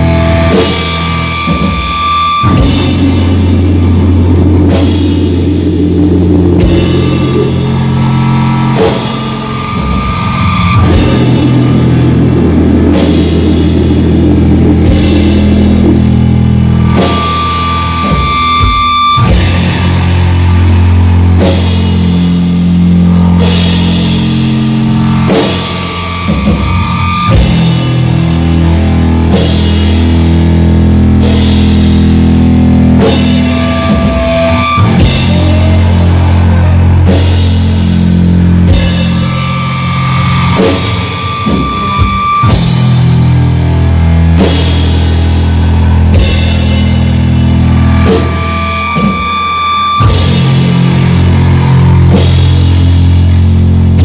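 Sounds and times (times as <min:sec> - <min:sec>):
distorted electric guitar chords: 0:00.0 - 0:54.0
drum and cymbal hits: 0:00.0 - 0:54.0.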